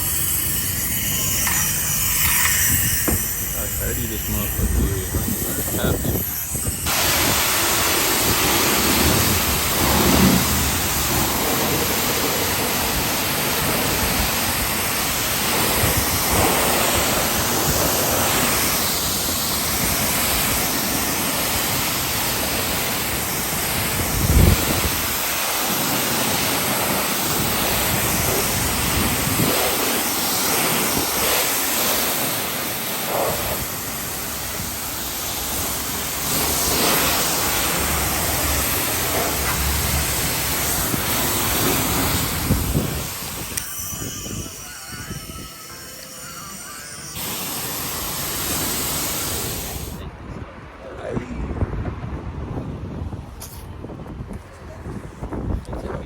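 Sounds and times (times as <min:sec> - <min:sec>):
pressure washer spraying water: 0:00.0 - 0:50.0.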